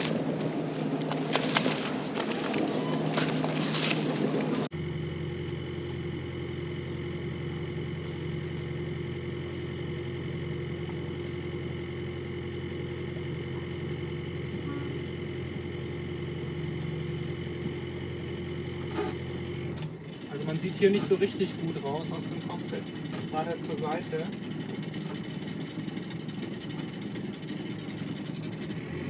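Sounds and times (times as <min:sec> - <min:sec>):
boat engine humming: 0:00.0 - 0:29.0.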